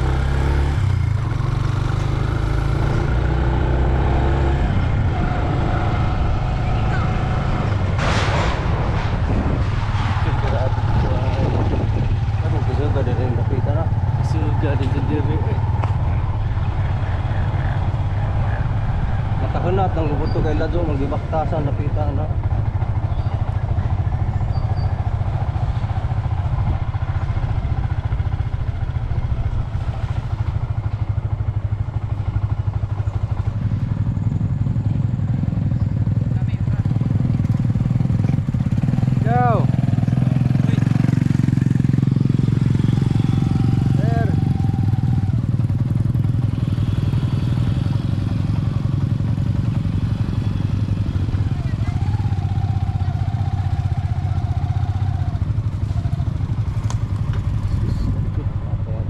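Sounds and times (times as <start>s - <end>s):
motorcycle engine running: 0.0s - 8.0s, 8.6s - 59.0s.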